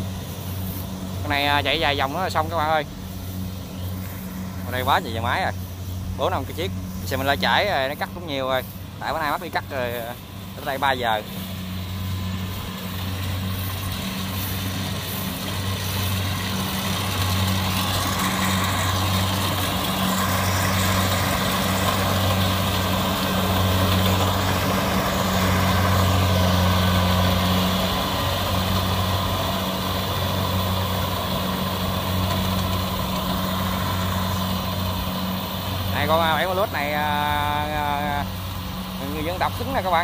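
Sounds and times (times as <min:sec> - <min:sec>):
combine harvester engine drone: 0:00.0 - 0:40.0.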